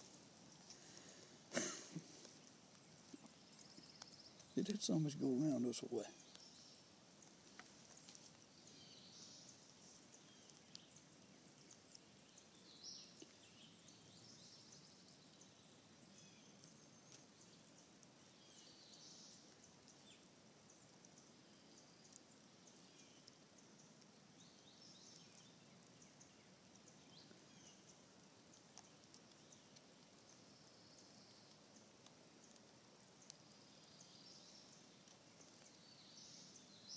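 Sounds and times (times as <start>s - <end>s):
woodland bird chirps: 2.3s - 36.9s.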